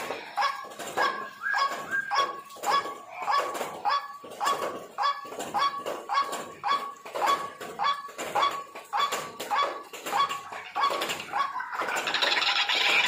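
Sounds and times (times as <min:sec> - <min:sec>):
waterhen harsh calls: 0:00.2 - 0:11.9.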